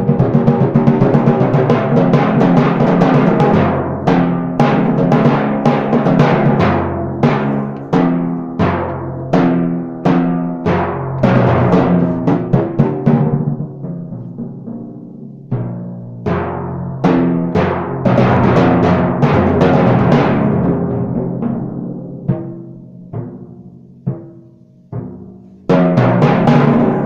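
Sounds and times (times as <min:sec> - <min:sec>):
timpani strokes: 0:00.0 - 0:27.0.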